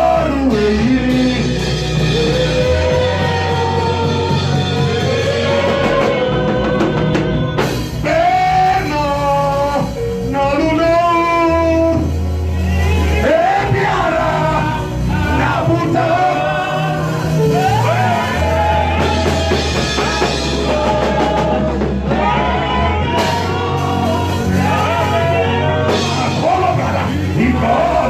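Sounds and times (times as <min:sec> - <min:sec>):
band playing: 0:00.0 - 0:28.0
person singing: 0:00.0 - 0:28.0.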